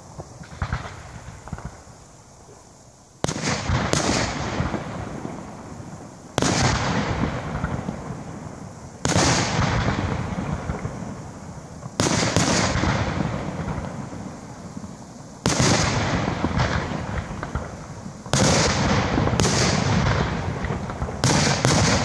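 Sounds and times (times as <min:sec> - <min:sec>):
firework shells bursting: 0:03.2 - 0:22.0.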